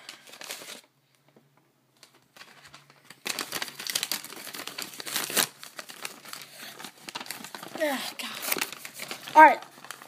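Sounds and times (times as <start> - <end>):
paper crinkling and rustling: 0.0 - 1.3, 2.0 - 10.0.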